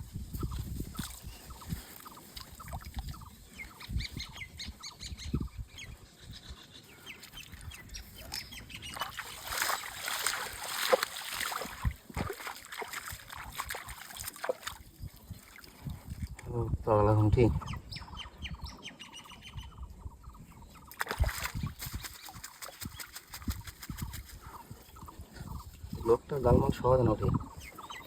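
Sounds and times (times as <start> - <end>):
birds calling: 0.4 - 15.8, 17.2 - 28.0.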